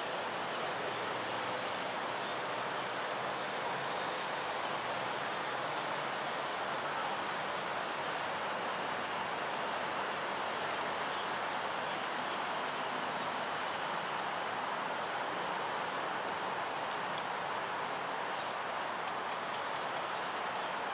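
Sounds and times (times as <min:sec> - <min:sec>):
background hiss: 0:00.0 - 0:20.9.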